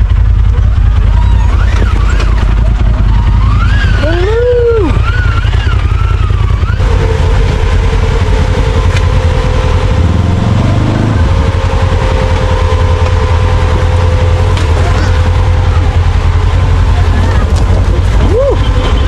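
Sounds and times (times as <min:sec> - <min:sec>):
steady whine: 0:00.0 - 0:19.0
vehicle engine rumbling: 0:00.0 - 0:19.0.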